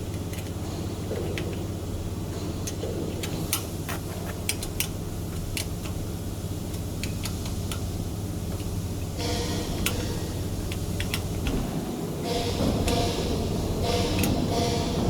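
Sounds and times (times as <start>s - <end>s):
workshop machinery hum: 0.0s - 15.0s.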